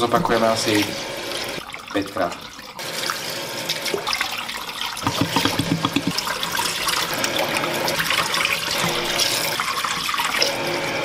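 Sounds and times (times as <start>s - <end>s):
water pouring into steel sink: 0.0s - 11.0s.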